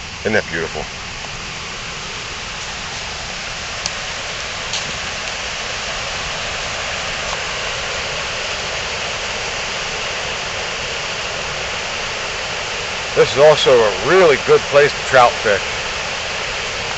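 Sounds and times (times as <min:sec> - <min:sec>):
stream rushing over rocks: 0:00.0 - 0:16.9.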